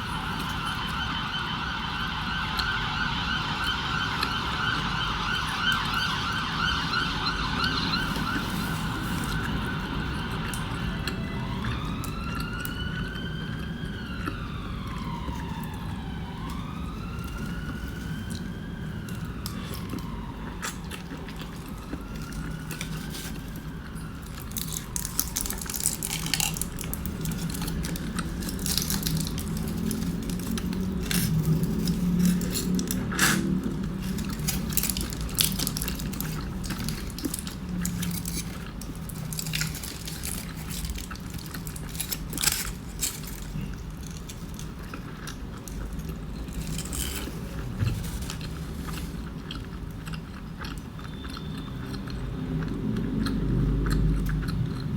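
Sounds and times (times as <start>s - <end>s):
biting and chewing food: 0.0s - 54.9s
distant siren: 0.0s - 54.9s
wet squishing: 0.0s - 54.9s.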